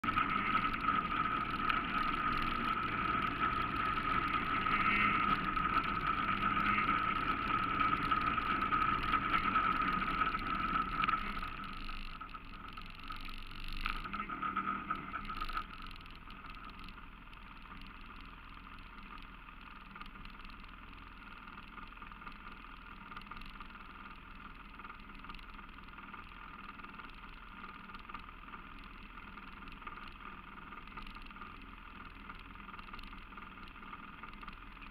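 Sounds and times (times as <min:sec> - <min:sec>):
atv engine running: 0:00.0 - 0:34.9
engine whine: 0:00.0 - 0:34.9.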